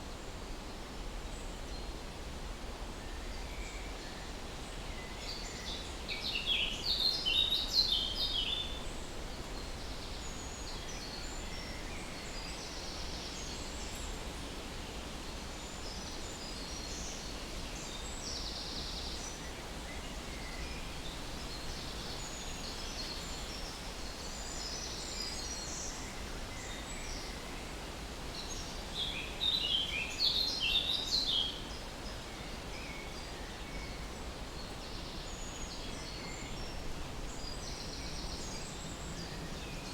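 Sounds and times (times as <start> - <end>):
steady background hiss: 0.0 - 39.9
songbirds chirping: 3.0 - 39.9.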